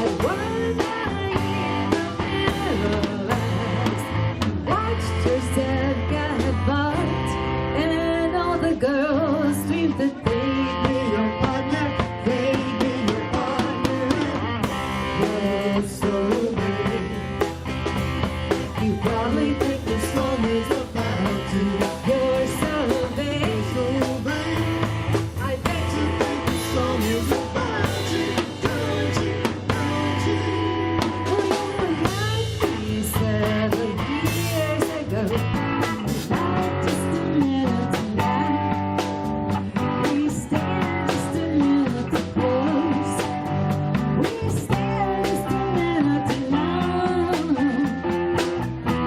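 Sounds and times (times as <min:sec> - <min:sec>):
drum kit: 0:00.0 - 0:07.9, 0:09.8 - 0:49.0
electric guitar: 0:00.0 - 0:49.0
live rock band playing: 0:00.0 - 0:49.0.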